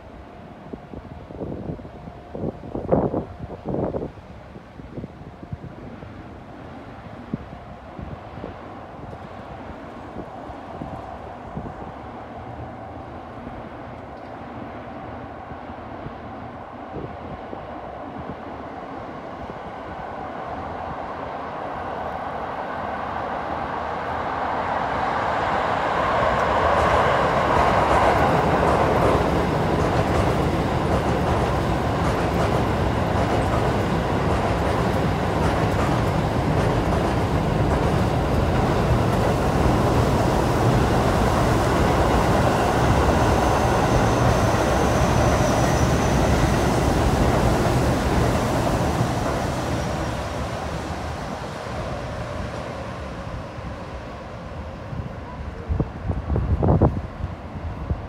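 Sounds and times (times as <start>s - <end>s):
electric train crossing steel bridge: 0.0s - 58.0s.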